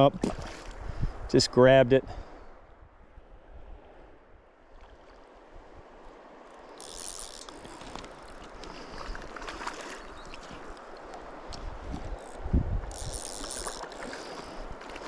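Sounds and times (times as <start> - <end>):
shallow stream running: 0.0 - 15.0.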